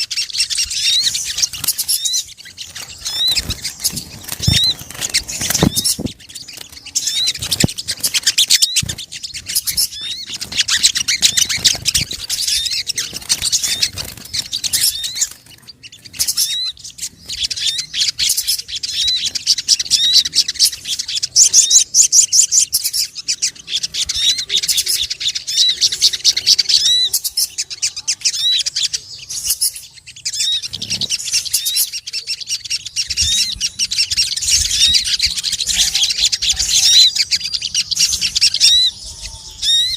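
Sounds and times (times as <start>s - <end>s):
busy bird twittering: 0.0s - 39.9s.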